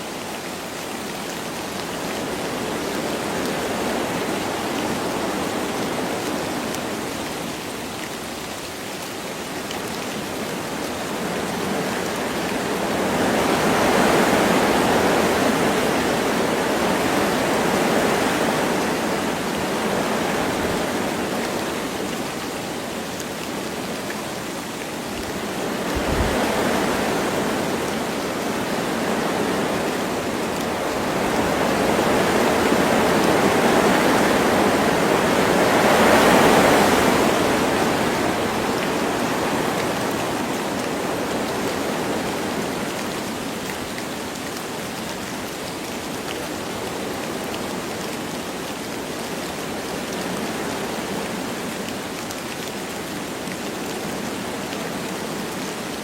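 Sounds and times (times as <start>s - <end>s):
light rain: 0.0s - 56.0s
wind gusting through trees: 0.0s - 56.0s.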